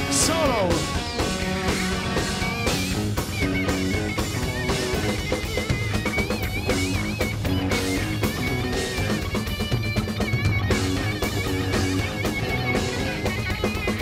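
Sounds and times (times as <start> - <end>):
live rock band instrumental: 0.0 - 14.0
wavering high guitar line: 0.0 - 14.0.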